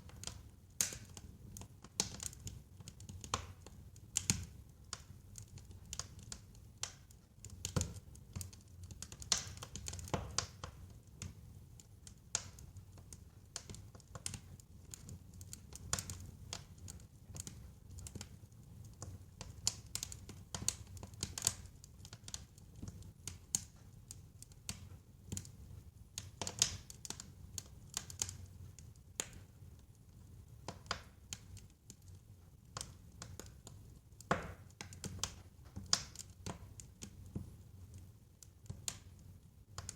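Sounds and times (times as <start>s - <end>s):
burning logs crackling and popping: 0.0s - 39.9s.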